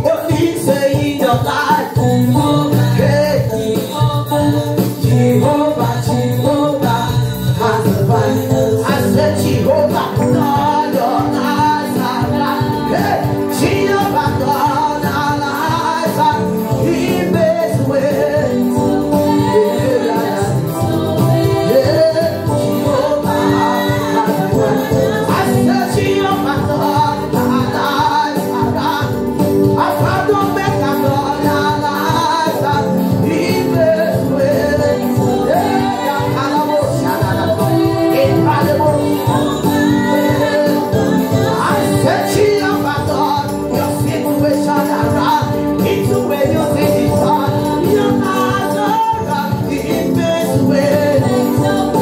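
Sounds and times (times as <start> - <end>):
live musical accompaniment: 0.0 - 52.0
percussion: 0.0 - 52.0
woman singing into microphone: 1.0 - 52.0.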